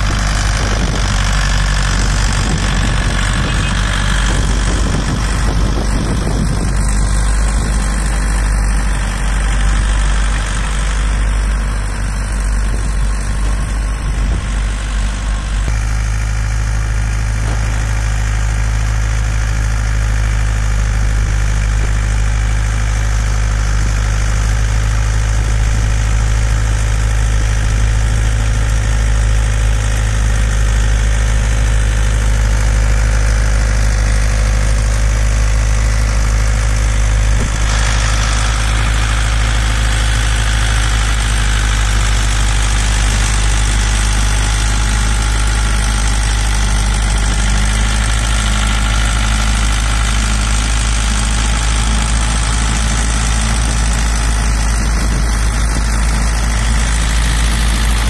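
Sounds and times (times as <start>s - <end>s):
rotary tiller in soil: 0.0s - 58.0s
tractor diesel engine running: 0.0s - 58.0s.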